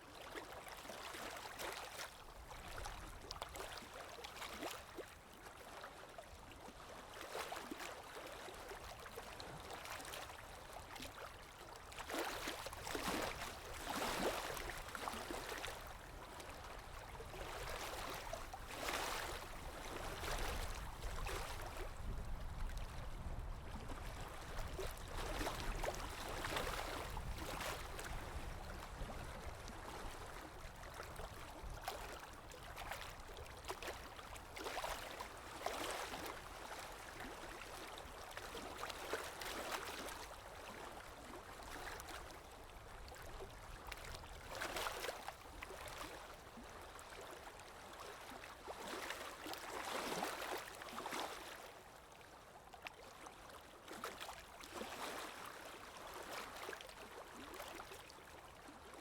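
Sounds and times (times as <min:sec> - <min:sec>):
water lapping in small waves: 0:00.0 - 0:59.0.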